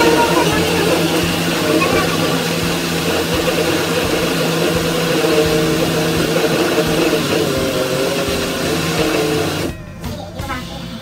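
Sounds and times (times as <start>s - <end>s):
blender running: 0.0s - 9.7s.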